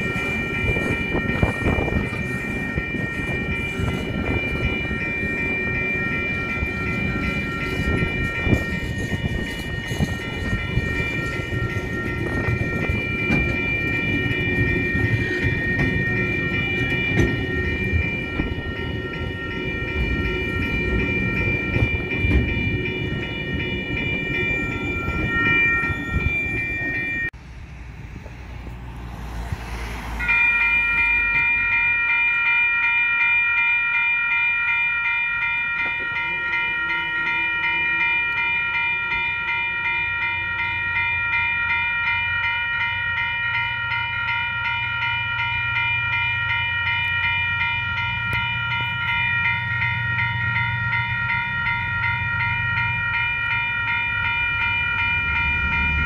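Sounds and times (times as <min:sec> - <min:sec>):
level crossing warning bells: 0:00.0 - 0:27.4, 0:28.9 - 0:56.0
diesel locomotives rumbling: 0:00.0 - 0:56.0.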